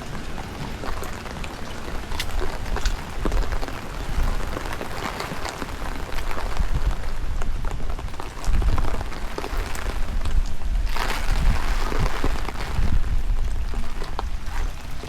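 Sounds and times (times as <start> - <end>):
rain pattering: 0.0 - 15.0
wind buffeting microphone: 0.0 - 15.0.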